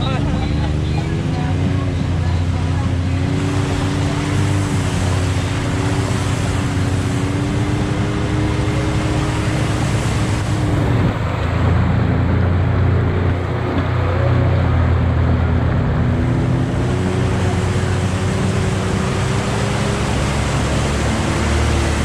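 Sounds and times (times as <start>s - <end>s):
turbocharged engine running: 0.0s - 22.0s.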